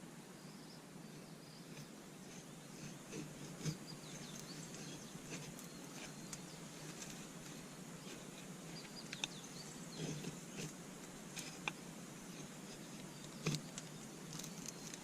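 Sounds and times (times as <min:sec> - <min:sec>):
wood fire crackling: 0:01.7 - 0:15.0.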